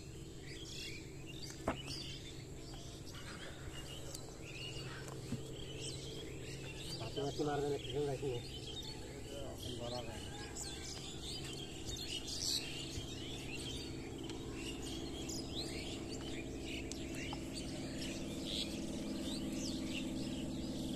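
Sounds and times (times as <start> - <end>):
small birds chirping: 0.0 - 20.9
steady low hum: 0.0 - 20.9.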